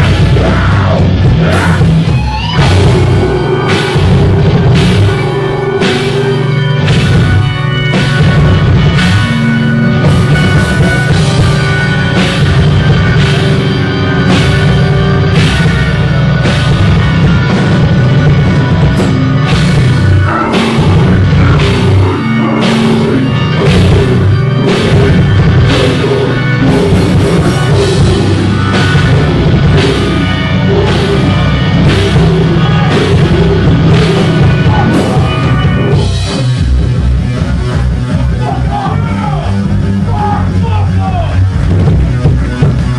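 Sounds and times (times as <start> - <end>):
heavy drum beat: 0.0 - 42.9
loud rock band playing: 0.0 - 42.9.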